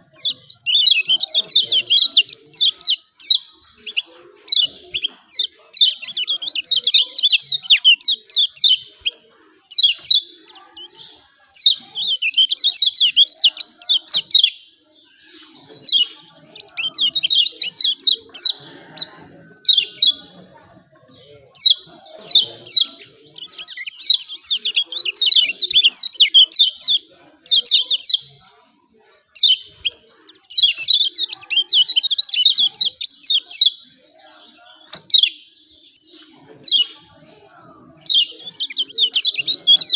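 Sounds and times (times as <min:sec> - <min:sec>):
bird chattering calls: 0:00.0 - 0:28.4, 0:29.2 - 0:37.1, 0:37.7 - 0:39.9.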